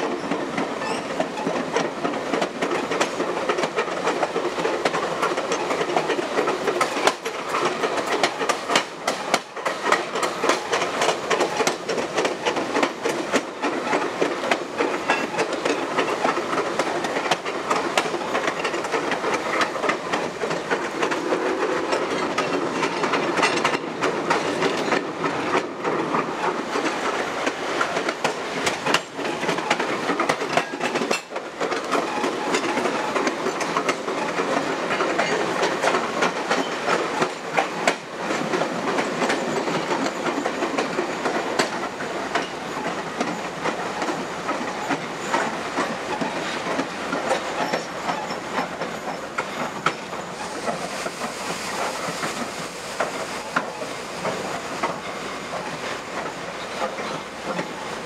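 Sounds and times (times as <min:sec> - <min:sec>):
train wheels rumbling on track: 0:00.0 - 0:58.0
wheels clicking over rail joints: 0:00.0 - 0:58.0.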